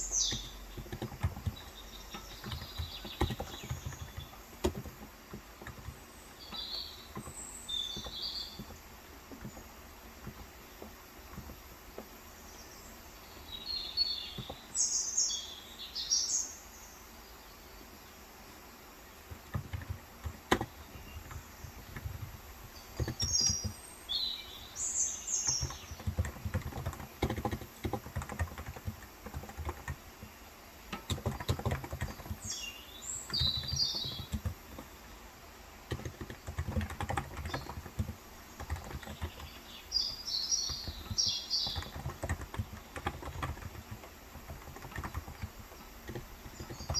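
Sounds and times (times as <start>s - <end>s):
soft keyboard typing: 0.0s - 12.4s, 13.5s - 14.7s, 19.1s - 46.9s
bird chirping: 0.0s - 46.9s.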